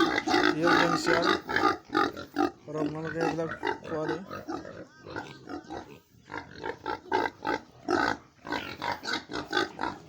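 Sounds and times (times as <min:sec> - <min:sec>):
pigs grunting: 0:00.0 - 0:10.0.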